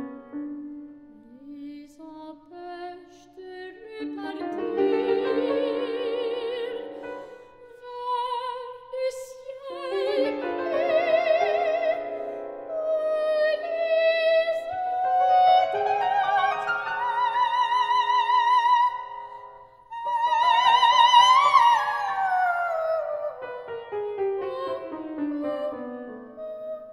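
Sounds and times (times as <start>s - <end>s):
grand piano: 0.0s - 26.9s
woman singing classical: 0.6s - 26.9s.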